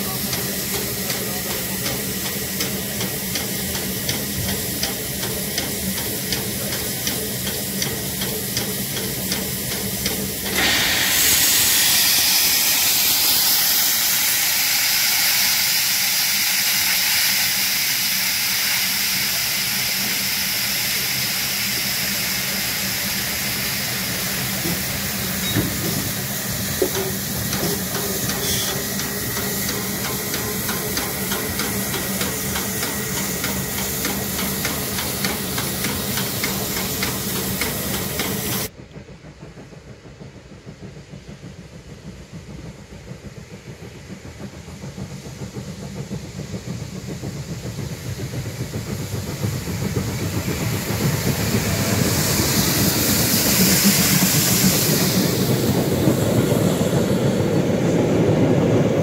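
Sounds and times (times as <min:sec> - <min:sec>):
rush of steam: 0:00.0 - 0:59.0
steam locomotive hissing: 0:00.0 - 0:59.0.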